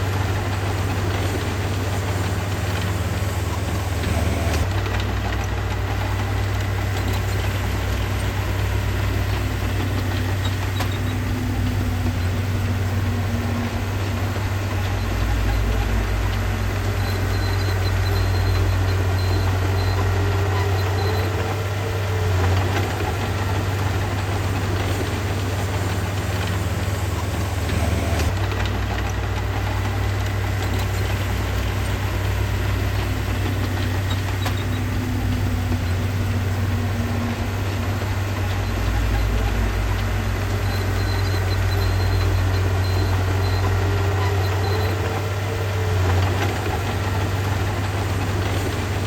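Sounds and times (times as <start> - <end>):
diesel engine of heavy machinery: 0.0 - 49.0.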